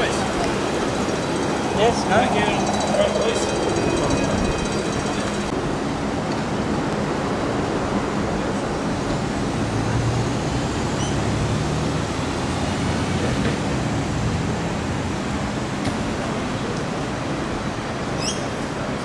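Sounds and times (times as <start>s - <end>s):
city noise hiss and rumble: 0.0s - 19.0s.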